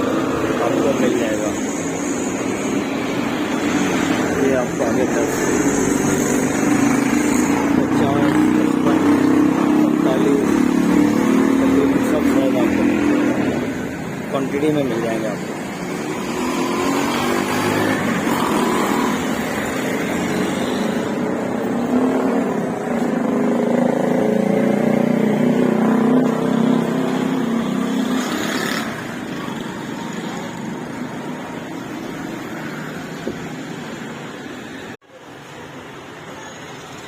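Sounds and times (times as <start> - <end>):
vehicle engines passing: 0.0 - 37.0.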